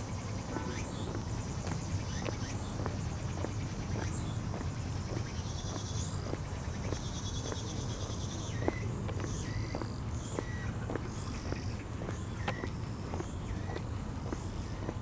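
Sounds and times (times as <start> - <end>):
footsteps on paved path: 0.0 - 15.0
insects chirping: 0.0 - 15.0.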